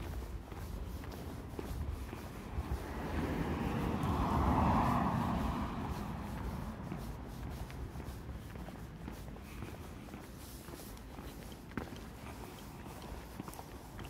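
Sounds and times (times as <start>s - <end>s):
faint footsteps: 0.0s - 14.0s
vehicle passing on street: 0.0s - 14.0s.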